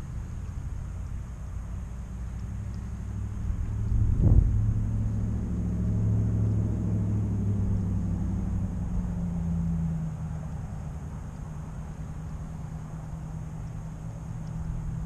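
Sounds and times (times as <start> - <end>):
passing vehicle engine: 0.0 - 15.0.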